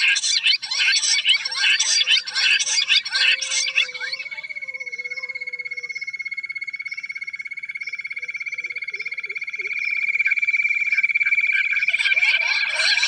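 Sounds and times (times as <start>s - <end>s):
quail pulsed trill: 0.0s - 13.0s.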